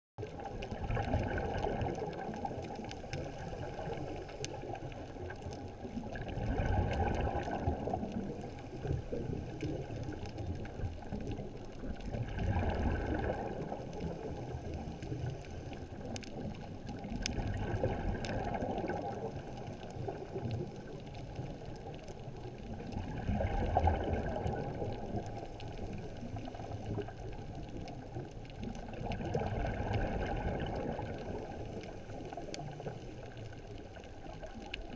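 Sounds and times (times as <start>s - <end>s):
faint clicks: 0.2s - 34.9s
muffled underwater water rush: 0.2s - 34.9s.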